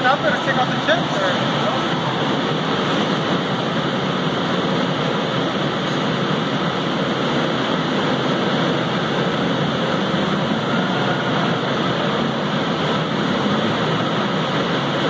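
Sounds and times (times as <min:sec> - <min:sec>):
coolant spray: 0:00.0 - 0:15.0
machine running steadily: 0:00.0 - 0:15.0.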